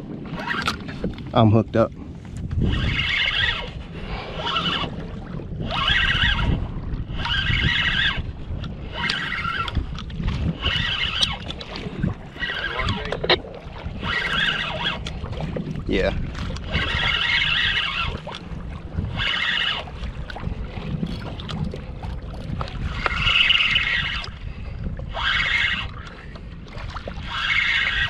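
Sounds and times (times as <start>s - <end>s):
wind and water rumble: 0.0s - 28.0s
fishing reel whirring: 0.3s - 1.1s, 2.6s - 28.0s.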